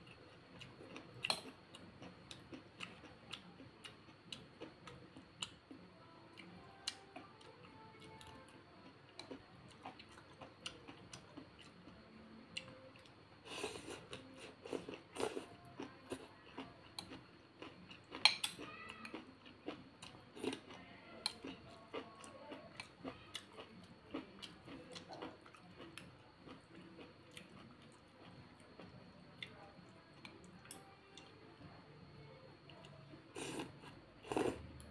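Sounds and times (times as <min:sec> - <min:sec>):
chewing and sipping soup: 0:00.0 - 0:31.4, 0:32.6 - 0:34.9.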